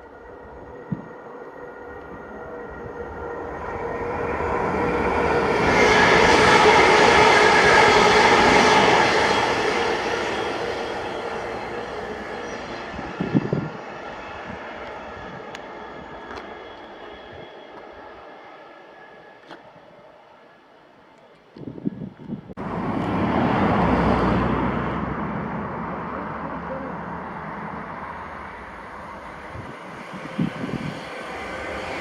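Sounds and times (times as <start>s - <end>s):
freight train passing: 0.0s - 32.0s.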